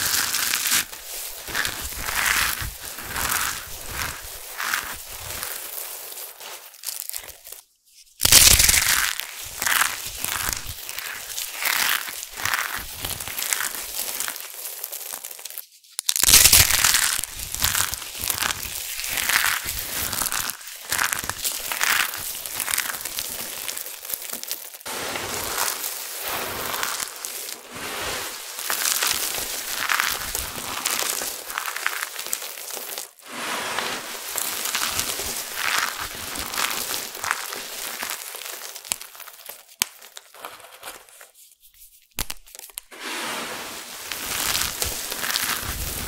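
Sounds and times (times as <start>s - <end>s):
crushed soap crunching and rustling: 0.0s - 46.0s.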